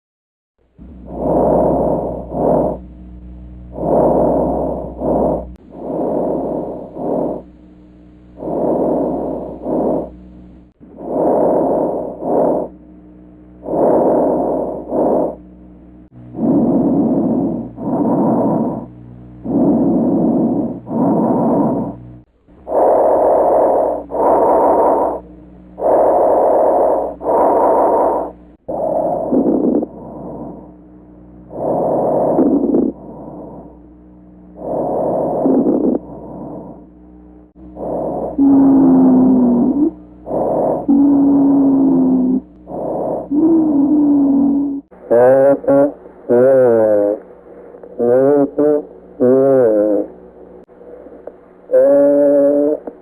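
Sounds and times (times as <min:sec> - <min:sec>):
abnormal breathing sounds: 0:00.8 - 0:03.0, 0:03.6 - 0:07.6, 0:08.3 - 0:12.8, 0:13.6 - 0:53.0.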